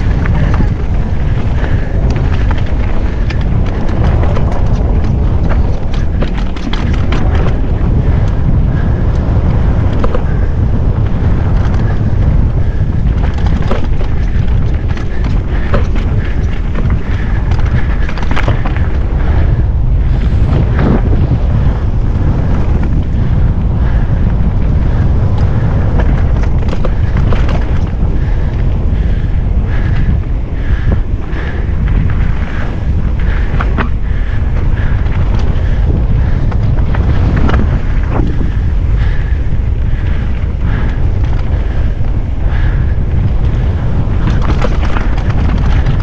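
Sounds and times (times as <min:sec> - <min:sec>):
bike rattling clicks and knocks: 0:00.0 - 0:46.0
wind rumble on microphone: 0:00.0 - 0:46.0.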